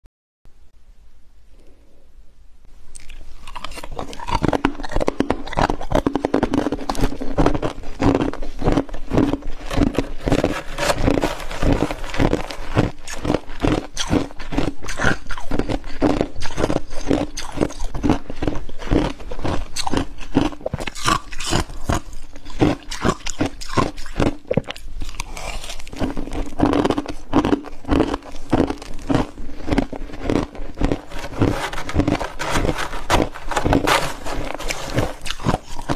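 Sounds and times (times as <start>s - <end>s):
chewing frost crunching: 2.9s - 35.9s.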